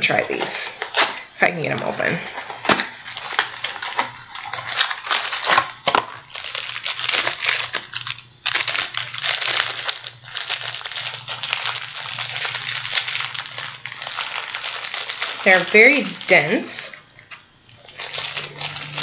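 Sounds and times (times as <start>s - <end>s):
plastic wrapper crinkling: 0.0s - 19.0s.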